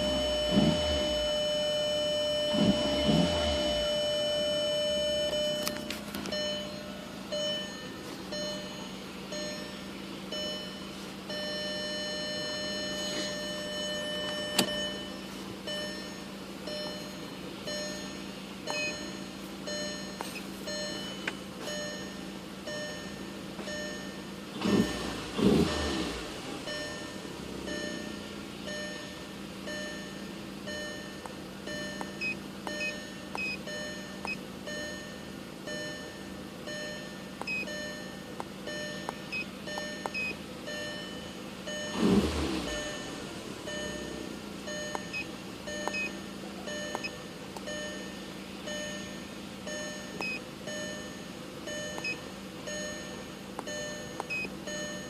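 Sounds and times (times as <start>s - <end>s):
electronic warning beeps: 0.0s - 55.0s
low steady hum: 0.0s - 55.0s.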